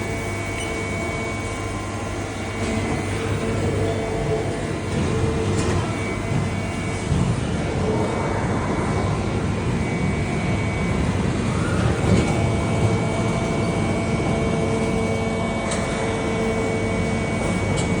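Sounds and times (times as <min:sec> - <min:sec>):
mill spindle running with whine: 0:00.0 - 0:18.0.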